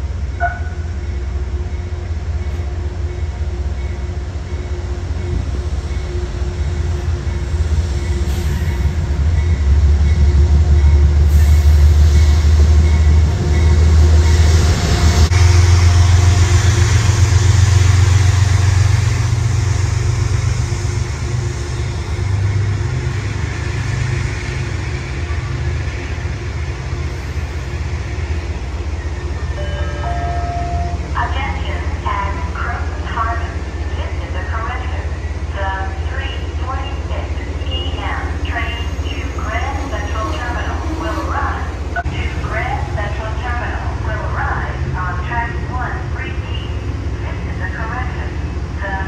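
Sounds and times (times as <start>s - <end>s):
train rumbling past: 0.0s - 49.0s.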